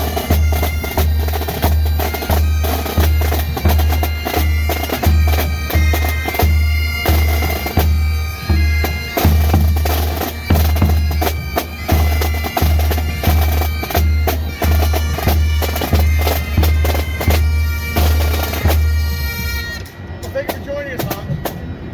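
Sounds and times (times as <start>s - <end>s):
bagpipes playing: 0.0s - 21.9s.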